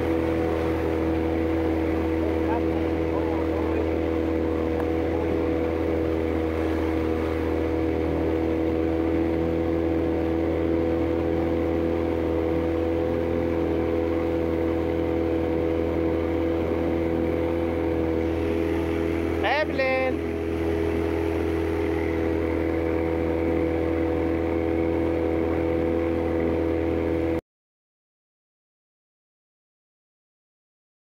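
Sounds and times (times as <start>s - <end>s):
boat motor droning: 0.0s - 27.4s
water noise: 0.0s - 27.4s.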